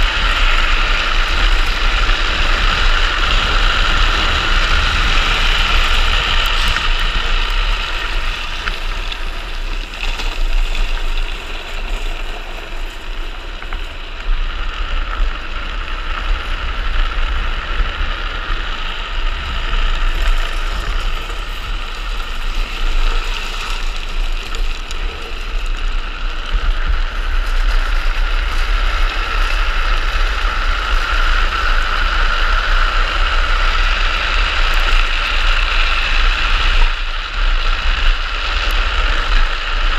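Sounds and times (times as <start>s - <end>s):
wheels rolling on asphalt: 0.0s - 39.9s
wind buffeting camera: 0.0s - 39.9s.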